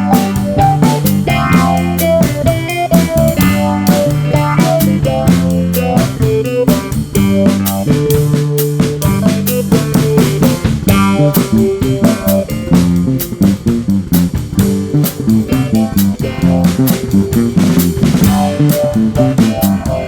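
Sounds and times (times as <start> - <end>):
bass guitar: 0.0 - 20.0
drum kit beat: 0.0 - 20.0
electric guitar: 0.0 - 20.0.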